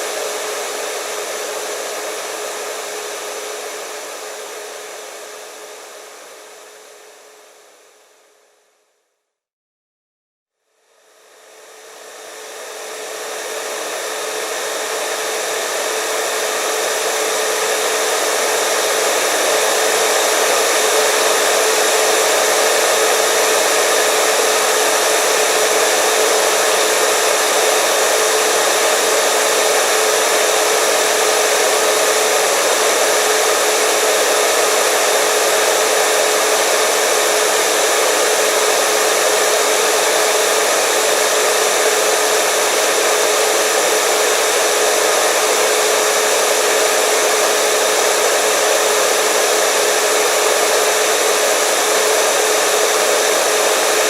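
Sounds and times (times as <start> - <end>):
hair dryer running: 0.0 - 8.0, 11.0 - 54.0.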